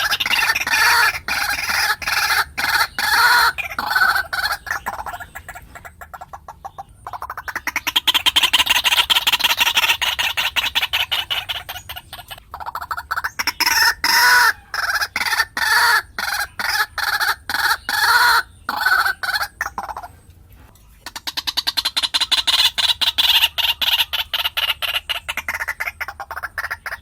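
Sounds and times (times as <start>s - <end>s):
bird calling and croaking: 0.0s - 27.0s.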